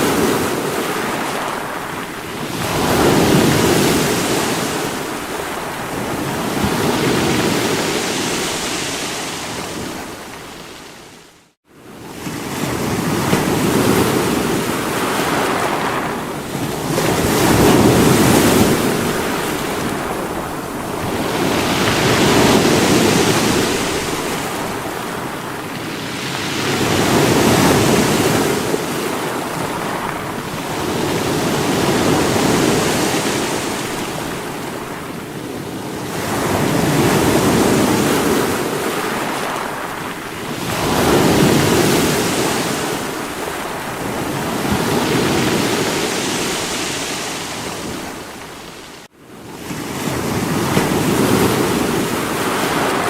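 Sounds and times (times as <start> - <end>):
sea waves breaking against rocks: 0.0 - 11.2, 11.9 - 53.0.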